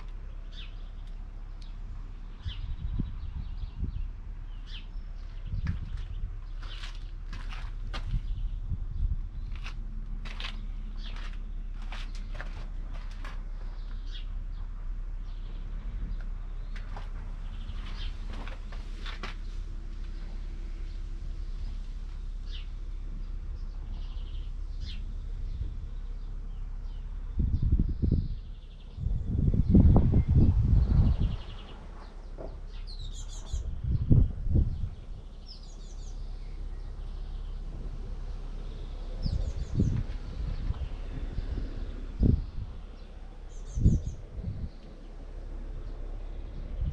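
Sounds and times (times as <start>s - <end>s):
birds chirping: 0.0s - 46.9s
steady low hum: 0.0s - 46.9s
steady low rumble: 0.0s - 46.9s.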